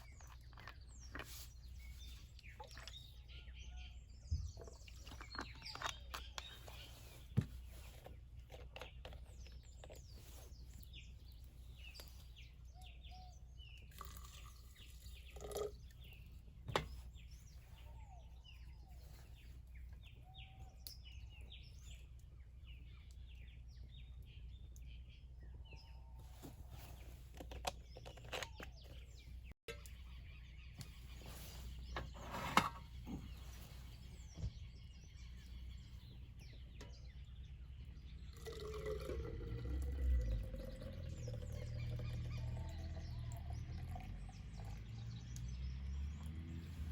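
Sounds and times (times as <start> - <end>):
birds chirping and calling: 0.0 - 46.9.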